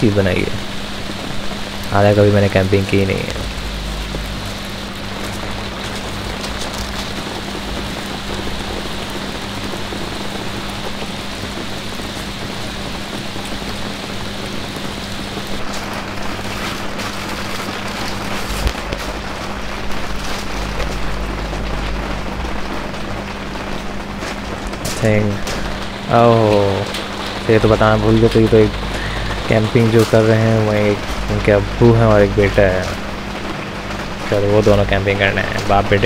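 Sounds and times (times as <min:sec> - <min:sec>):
rain falling: 0:00.0 - 0:36.0
sharp raindrops: 0:00.0 - 0:36.0.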